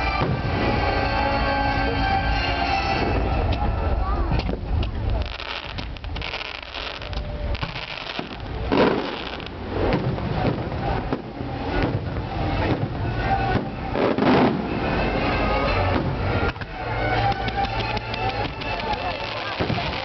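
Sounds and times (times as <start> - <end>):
fireworks bursts: 0.0 - 1.2, 2.9 - 20.0
fireworks crackling: 0.0 - 2.0, 2.6 - 20.0.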